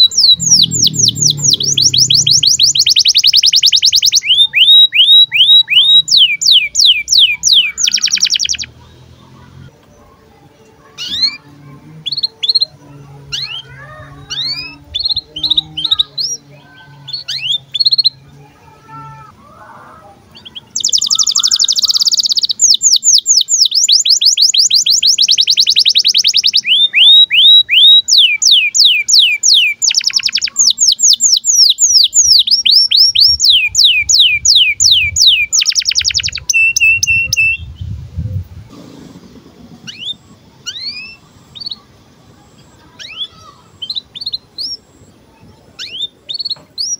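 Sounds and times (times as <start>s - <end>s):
canary chirping: 0.0s - 8.8s, 10.9s - 19.2s, 20.3s - 37.8s, 39.8s - 46.9s
canary song: 0.0s - 46.9s.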